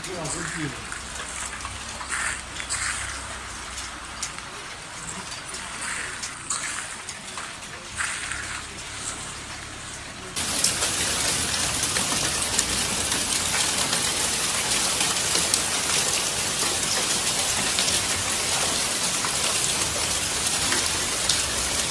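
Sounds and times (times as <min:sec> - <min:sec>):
volcanic ash raining down: 0:00.0 - 0:21.9.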